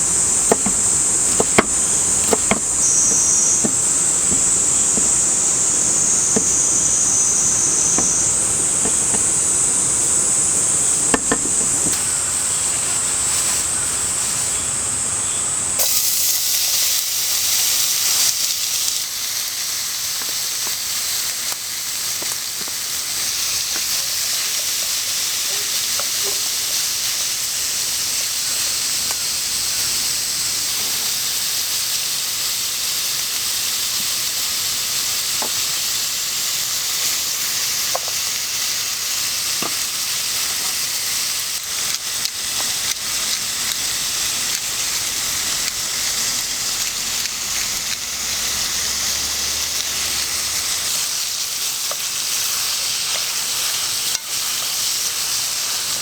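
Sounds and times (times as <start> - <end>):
cicadas buzzing: 0.0 - 56.0
steady hiss: 0.0 - 56.0.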